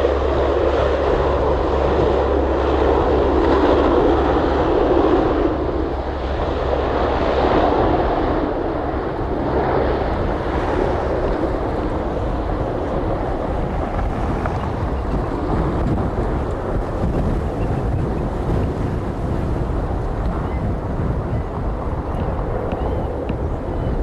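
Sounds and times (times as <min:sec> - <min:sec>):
aircraft engine rushing: 0:00.0 - 0:24.0
wind buffeting microphone: 0:00.0 - 0:24.0.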